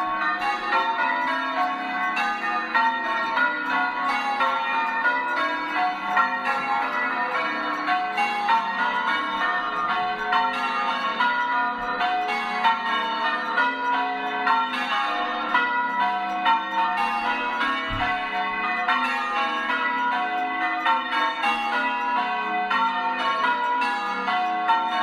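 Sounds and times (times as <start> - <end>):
church bells ringing: 0.0 - 25.0.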